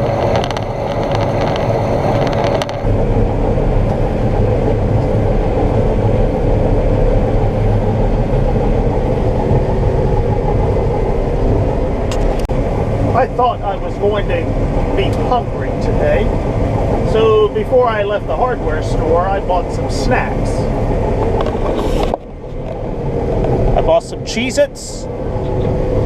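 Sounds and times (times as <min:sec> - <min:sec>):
combine harvester drone and whine: 0:00.0 - 0:26.0.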